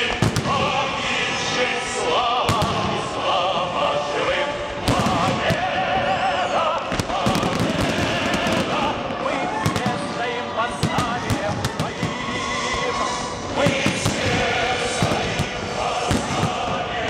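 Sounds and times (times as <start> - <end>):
fireworks bursting with bangs: 0.0 - 1.6, 2.4 - 3.6, 4.8 - 17.0
loud music with singing: 0.0 - 17.0.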